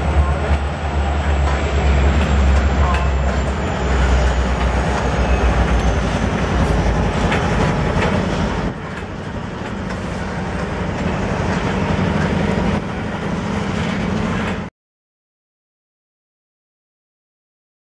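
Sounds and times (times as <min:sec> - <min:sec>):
freight train deep rumble: 0:00.0 - 0:14.7
rattle of train cars: 0:00.0 - 0:14.7.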